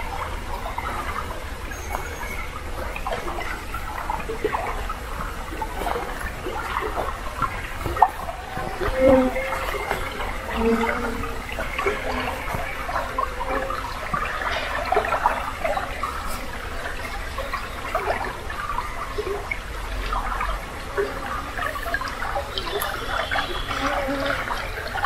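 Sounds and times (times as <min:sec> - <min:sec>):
spring water babbling: 0:00.0 - 0:25.0.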